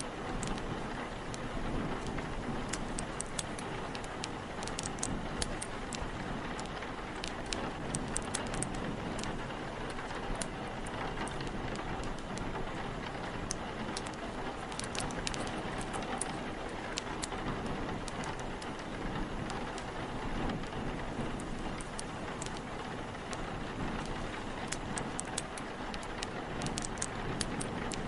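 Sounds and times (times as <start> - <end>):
heavy rain: 0.0 - 28.0
wood fire crackling: 0.0 - 28.0.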